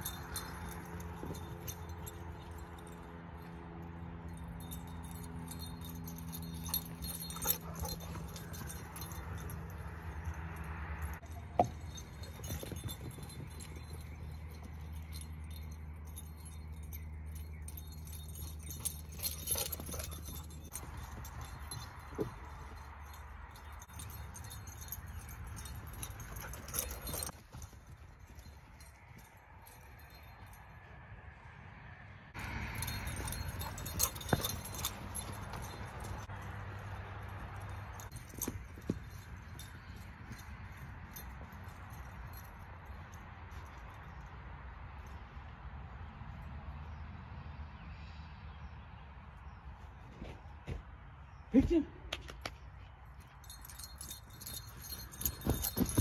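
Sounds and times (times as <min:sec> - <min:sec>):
light metallic jingles and clicks: 0:00.0 - 0:31.4, 0:32.3 - 0:47.4, 0:52.1 - 0:56.0.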